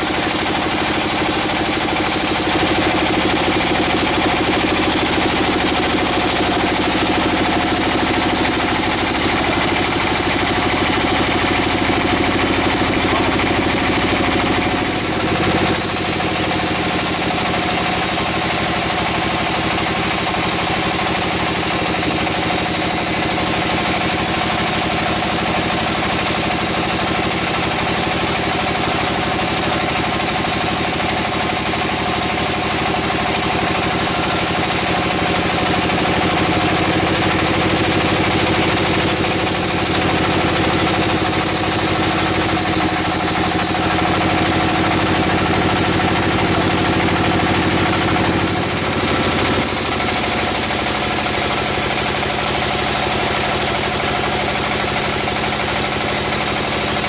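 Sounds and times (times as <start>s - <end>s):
band saw mechanical drone: 0.0s - 54.3s.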